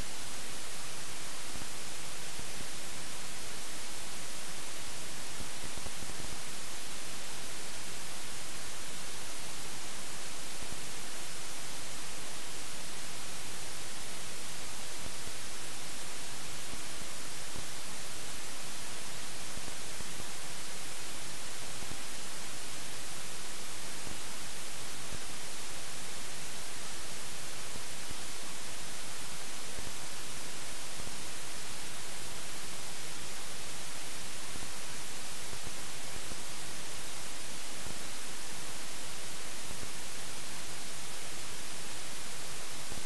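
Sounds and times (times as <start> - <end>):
electronic static hiss: 0.0 - 43.0.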